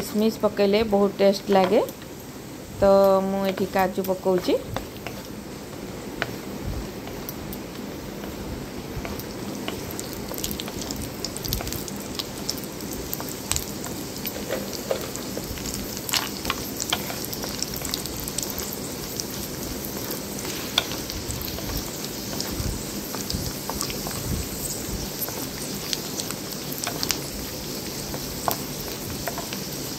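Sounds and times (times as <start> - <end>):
nuts sizzling in hot oil: 0.0 - 29.9
spatula stirring: 3.4 - 29.9.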